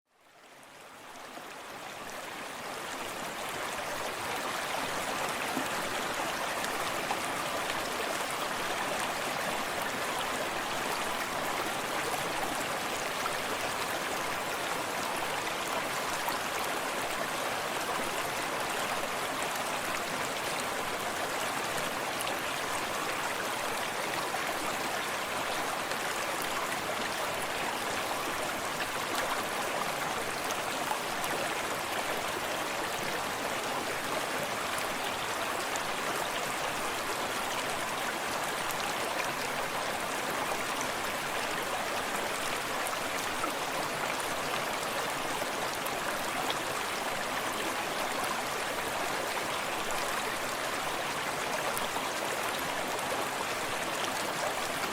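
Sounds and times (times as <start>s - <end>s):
stream gurgling over stones: 0.8s - 54.9s.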